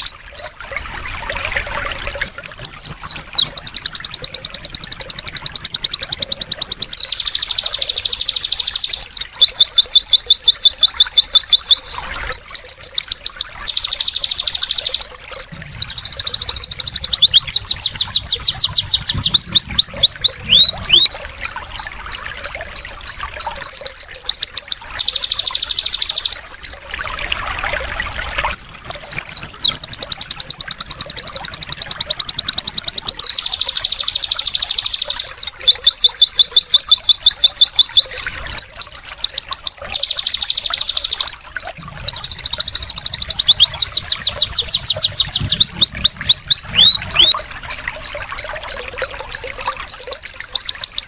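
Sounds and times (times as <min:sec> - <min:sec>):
bird trilling and chirping: 0:00.0 - 0:01.0, 0:02.2 - 0:51.0
water trickling: 0:00.0 - 0:51.0.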